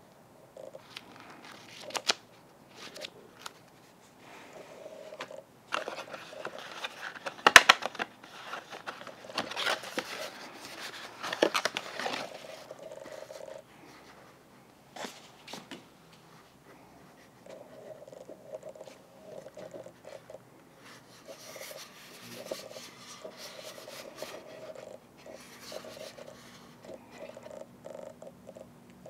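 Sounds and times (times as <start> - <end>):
paper rustling and crinkling: 0.8 - 4.1, 5.1 - 18.0, 18.8 - 27.4.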